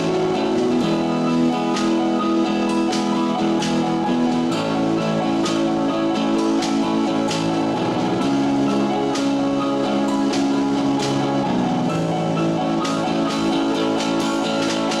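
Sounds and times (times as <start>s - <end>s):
live band guitar music: 0.0s - 15.0s.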